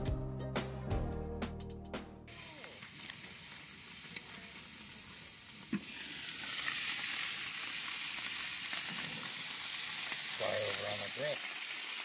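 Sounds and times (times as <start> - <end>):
burger patties sizzling on grill: 2.3 - 12.0.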